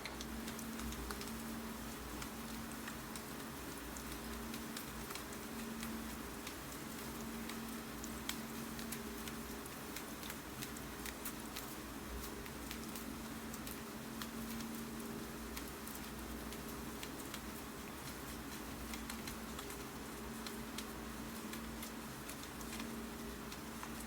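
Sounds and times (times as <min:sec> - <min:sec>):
low steady hum: 0:00.0 - 0:24.0
steady rain: 0:00.0 - 0:24.0.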